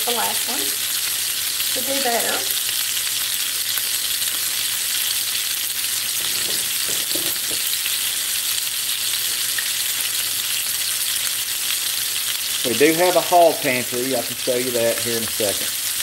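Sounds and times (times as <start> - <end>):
onion rings sizzling in hot oil: 0.0 - 16.0.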